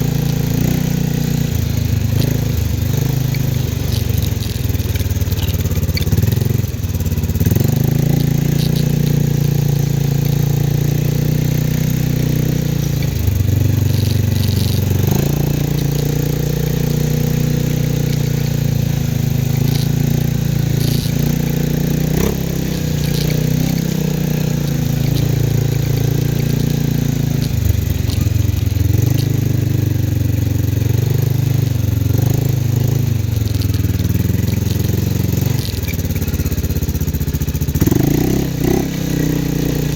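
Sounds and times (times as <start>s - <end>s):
atv engine running: 0.0s - 39.9s
rattles and clicks: 0.0s - 39.9s.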